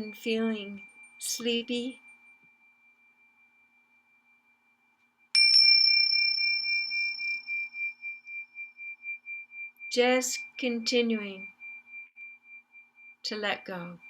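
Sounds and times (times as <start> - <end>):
metal singing bowl ringing: 0.0 - 14.0.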